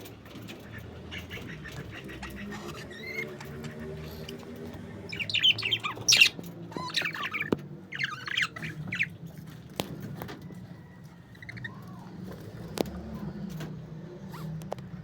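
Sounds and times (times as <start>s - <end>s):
parakeets chattering and squawking: 0.0s - 10.2s, 11.2s - 13.6s.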